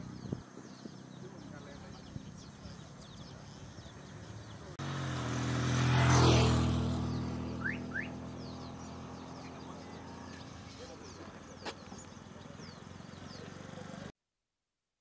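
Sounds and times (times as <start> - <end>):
vehicle passing on road: 0.0 - 14.1.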